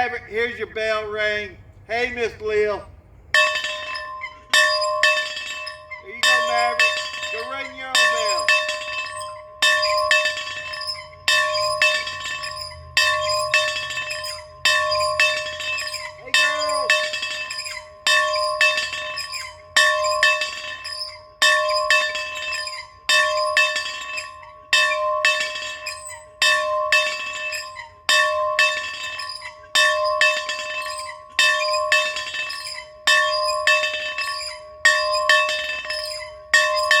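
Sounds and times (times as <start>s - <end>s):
bell ringing: 3.4s - 37.0s.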